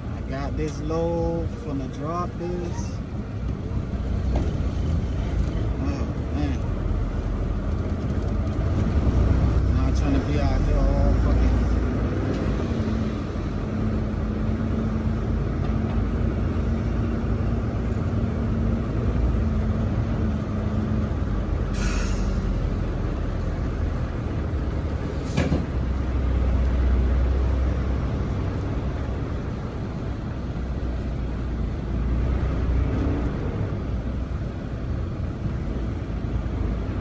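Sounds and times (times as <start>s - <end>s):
truck engine and road rumble: 0.0s - 37.0s.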